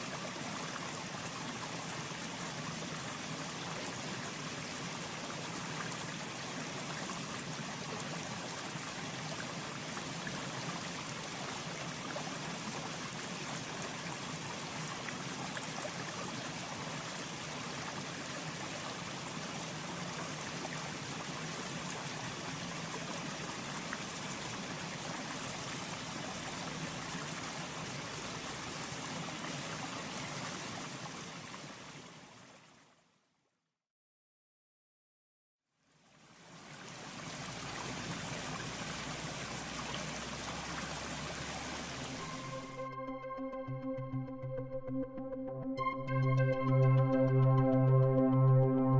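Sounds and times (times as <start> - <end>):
mountain stream flowing: 0.0 - 33.0, 35.9 - 42.8.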